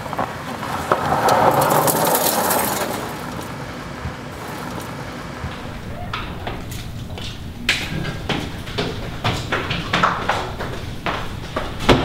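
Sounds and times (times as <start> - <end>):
minivan engine: 0.0 - 12.0
tyres crunching on gravel: 0.0 - 12.0.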